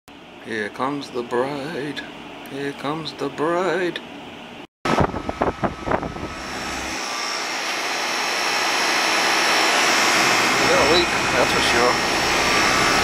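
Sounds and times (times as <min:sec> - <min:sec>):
air conditioner fan running: 0:00.2 - 0:13.0.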